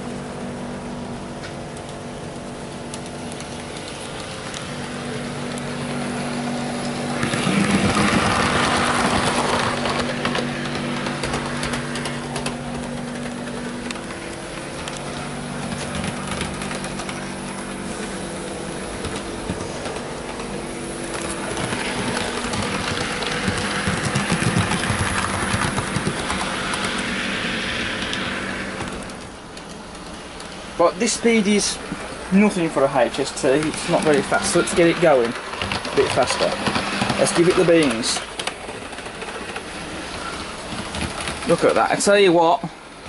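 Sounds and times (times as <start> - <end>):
model train electric motor hum: 0.0 - 43.0
wheels clicking on track: 1.4 - 43.0.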